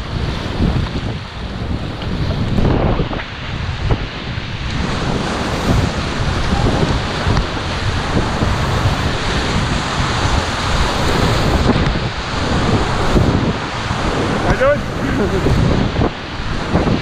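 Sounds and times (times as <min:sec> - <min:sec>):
wind buffeting microphone: 0:00.0 - 0:17.0
whitewater rapids rushing: 0:02.6 - 0:17.0.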